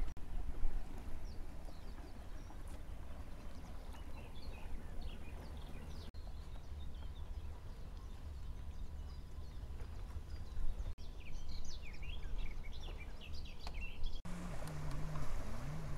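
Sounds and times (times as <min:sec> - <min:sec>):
small birds chirping: 0:01.2 - 0:14.2.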